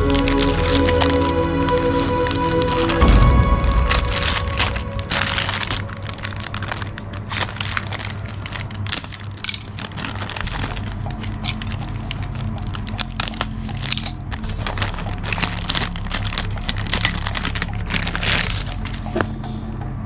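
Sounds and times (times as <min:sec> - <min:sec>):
plastic packaging crinkling: 0:00.0 - 0:19.5.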